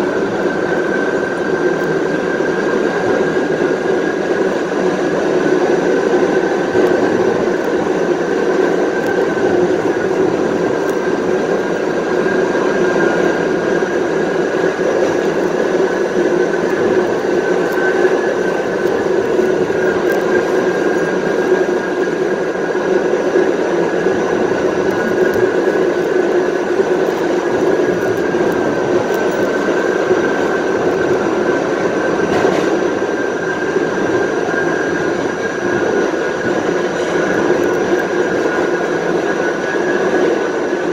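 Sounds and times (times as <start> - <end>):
subway car motor howl: 0.0 - 40.9
wheels rumbling on track: 0.0 - 40.9.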